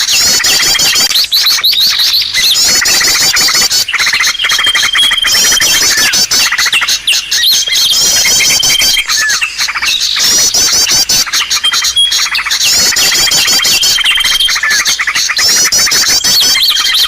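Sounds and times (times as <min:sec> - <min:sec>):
chattering bird trill: 0:00.0 - 0:17.0
high bird chirps: 0:00.0 - 0:17.0
high bird whistle: 0:00.0 - 0:17.0.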